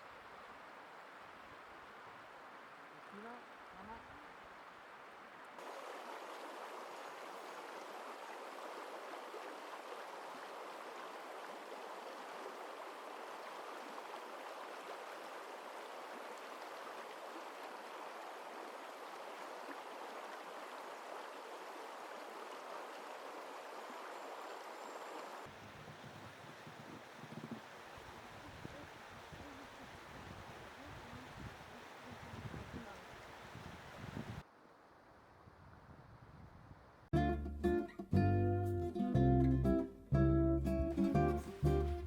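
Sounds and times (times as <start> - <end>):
water rushing: 0.0 - 34.5, 41.0 - 42.0.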